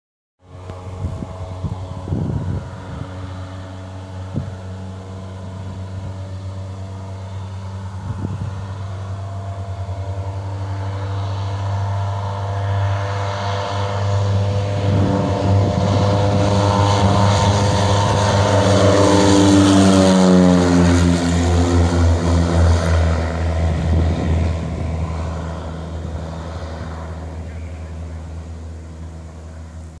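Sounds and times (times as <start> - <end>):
propeller airplane taking off: 0.4 - 30.0.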